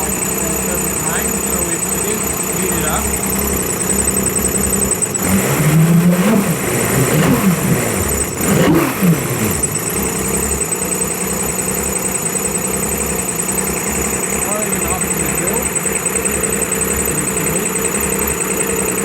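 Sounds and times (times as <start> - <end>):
outboard engine revving and idling: 0.0 - 19.0.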